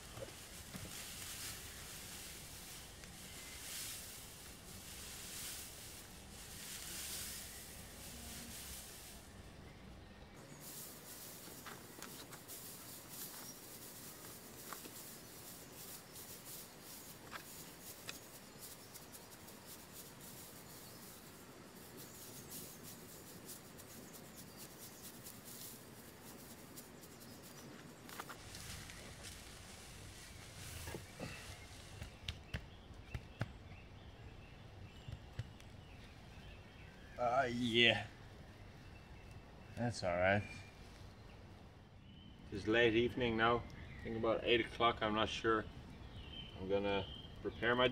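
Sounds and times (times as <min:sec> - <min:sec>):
dry grass rustling: 0:00.0 - 0:41.7.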